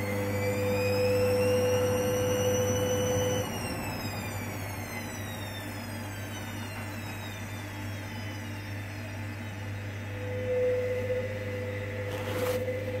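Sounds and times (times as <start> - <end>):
steady whine: 0.0 - 13.0
washing machine hum: 0.0 - 13.0
washing machine motor whine: 0.0 - 13.0.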